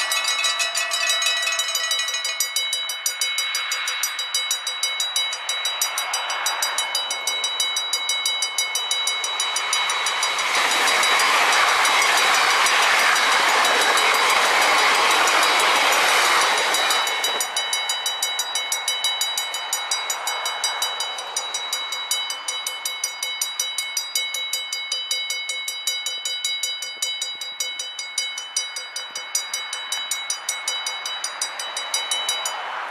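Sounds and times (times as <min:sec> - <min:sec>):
train rolling past: 0:00.0 - 0:25.1, 0:26.2 - 0:32.9
level crossing warning bell: 0:00.0 - 0:32.9.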